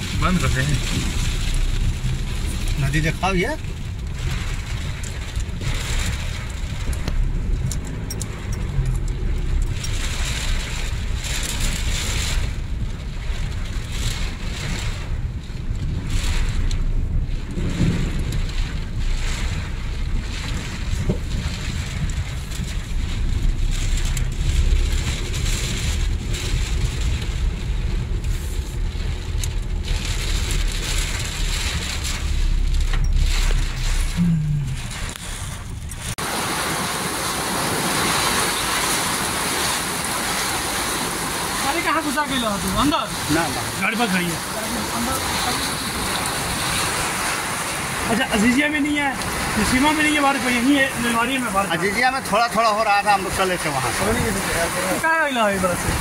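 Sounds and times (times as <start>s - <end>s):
car engine low rumble: 0.0s - 56.0s
rushing water and rain: 0.0s - 56.0s.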